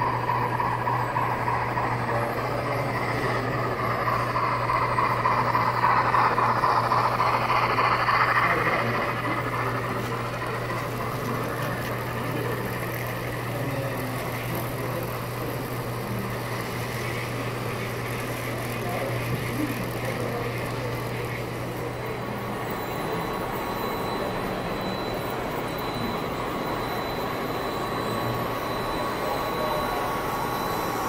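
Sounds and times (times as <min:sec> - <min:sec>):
model train running on track: 0:00.0 - 0:31.0.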